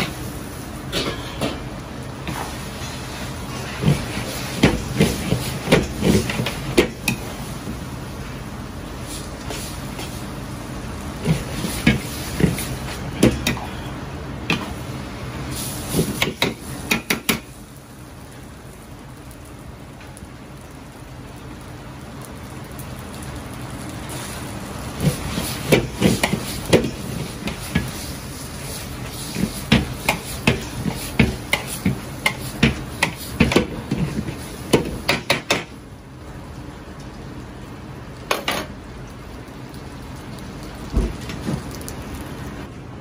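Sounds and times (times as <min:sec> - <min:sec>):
wok burner rushing: 0:00.0 - 0:20.9, 0:21.6 - 0:36.8, 0:39.8 - 0:42.8
food sizzling: 0:00.0 - 0:42.7.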